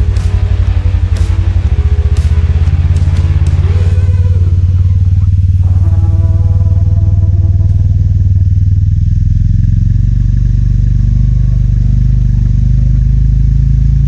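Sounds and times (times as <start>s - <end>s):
steady high tone: 0.0s - 13.7s
motorcycle engine running: 0.0s - 14.0s.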